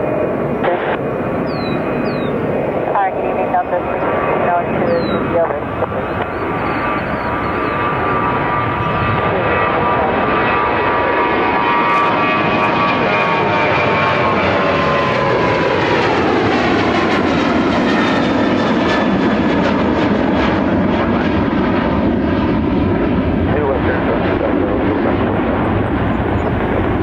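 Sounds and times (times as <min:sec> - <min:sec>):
jet engines at takeoff thrust: 0:00.0 - 0:27.0.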